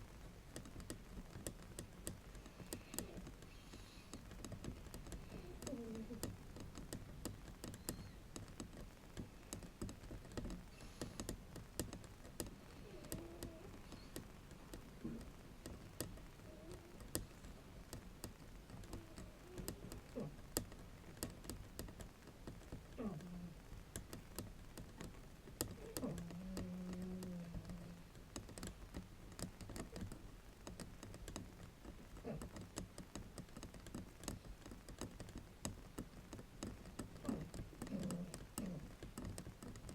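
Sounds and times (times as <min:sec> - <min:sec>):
tapping and scratching on bamboo mat: 0:00.0 - 0:39.9.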